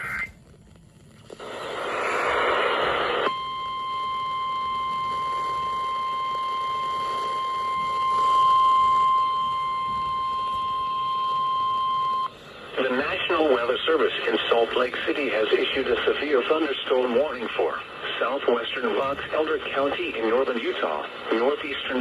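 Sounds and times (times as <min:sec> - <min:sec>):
harsh static noise: 0:00.0 - 0:22.0.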